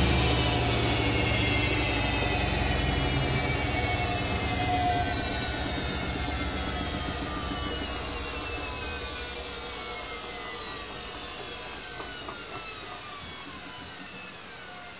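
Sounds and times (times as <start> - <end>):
washing machine spin whine falling: 0.0 - 14.9.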